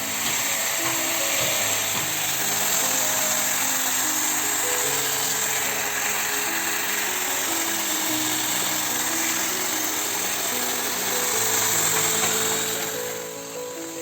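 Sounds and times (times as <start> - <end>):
background music: 0.0 - 14.0
small appliance motor whirring: 0.0 - 14.0.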